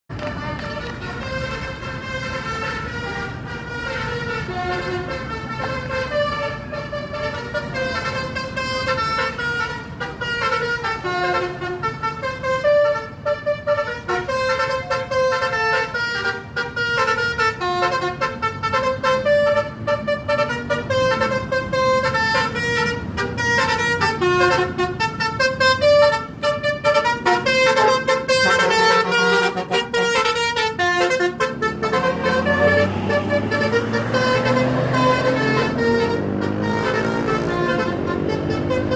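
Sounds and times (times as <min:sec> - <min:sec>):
bus engine running: 0:00.1 - 0:38.9
multi-tone bus horn melody: 0:00.1 - 0:38.9.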